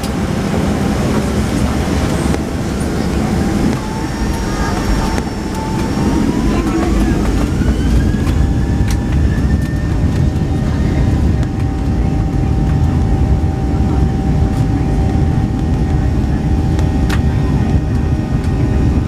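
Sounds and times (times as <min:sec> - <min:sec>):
airplane cabin rumble: 0:00.0 - 0:19.0
jet engine whine: 0:00.0 - 0:19.0.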